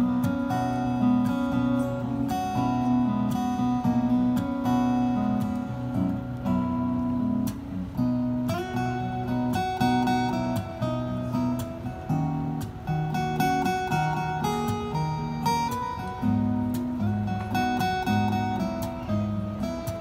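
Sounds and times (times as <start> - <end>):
two acoustic guitars playing: 0.0 - 20.0.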